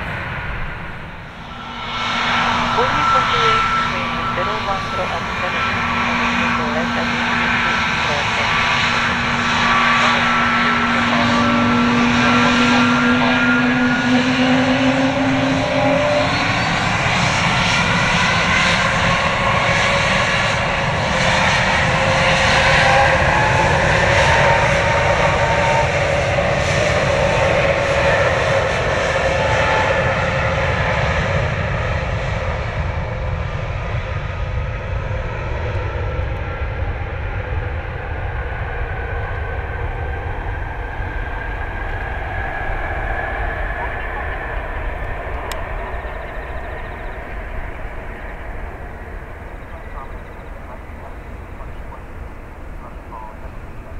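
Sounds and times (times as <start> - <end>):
jet engines running: 0.0 - 53.9
low hum: 0.0 - 53.9.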